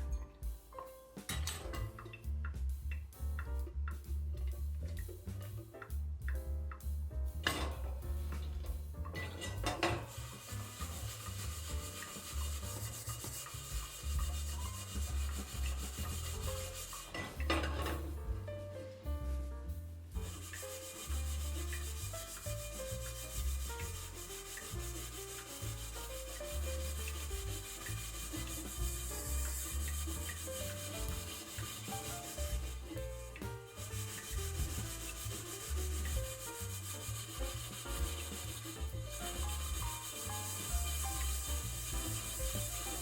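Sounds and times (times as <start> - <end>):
background music with bass: 0.0 - 43.0
brush scrubbing hard surface: 7.5 - 43.0.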